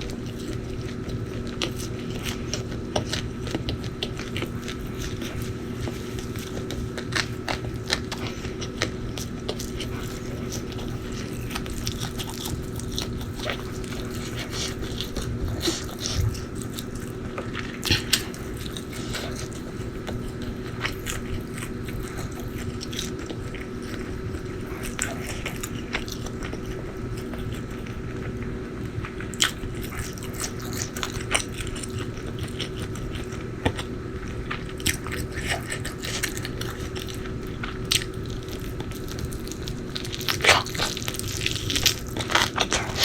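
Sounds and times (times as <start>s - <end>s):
crunching and wet chewing: 0.0s - 43.0s
faint steady hum: 0.0s - 43.0s.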